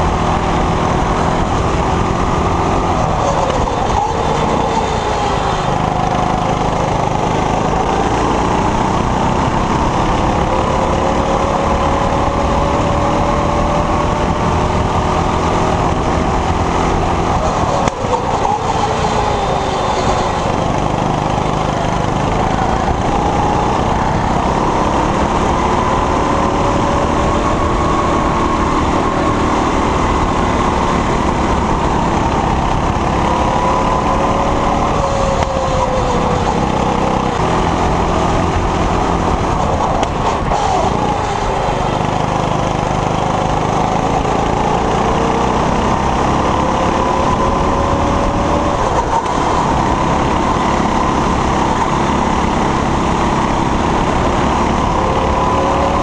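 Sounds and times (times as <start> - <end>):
go-kart engine revving: 0.0 - 56.0
steady rushing noise: 0.0 - 56.0.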